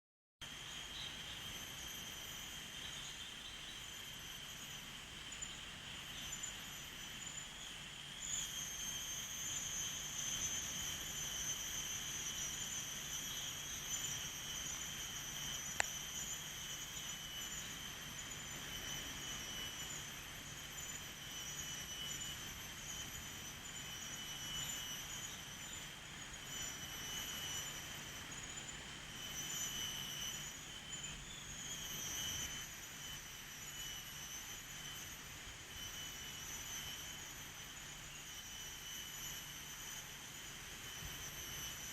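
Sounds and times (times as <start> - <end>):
shrill insects chorus: 0.4 - 41.9.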